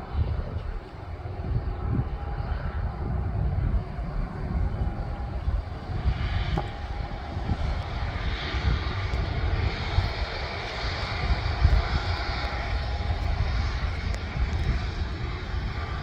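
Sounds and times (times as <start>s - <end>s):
aircraft engines running: 0.0s - 16.0s
wind buffeting microphone: 0.0s - 16.0s.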